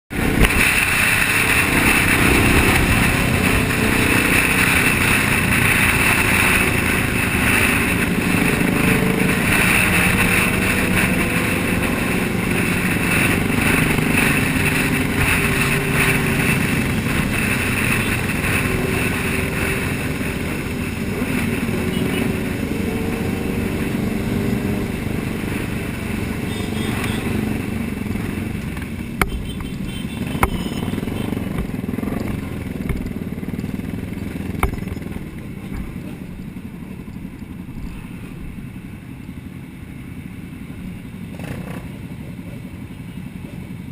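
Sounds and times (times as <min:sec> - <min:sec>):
motorcycle engines running: 0:00.1 - 0:43.9
wind and road noise: 0:00.1 - 0:43.9.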